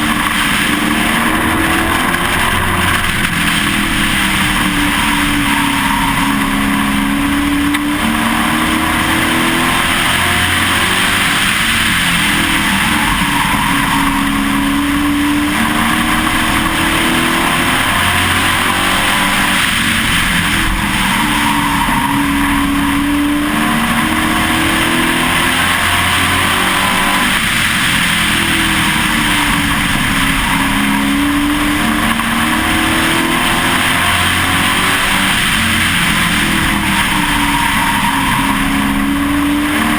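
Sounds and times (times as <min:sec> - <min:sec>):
race truck engine: 0:00.0 - 0:39.9
wind and road noise: 0:00.0 - 0:39.9.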